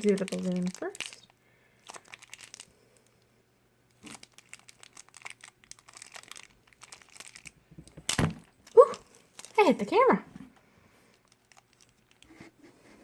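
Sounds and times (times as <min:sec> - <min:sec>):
plastic wrapper crinkling and tearing: 0:00.0 - 0:03.2, 0:03.9 - 0:10.0, 0:11.0 - 0:12.3.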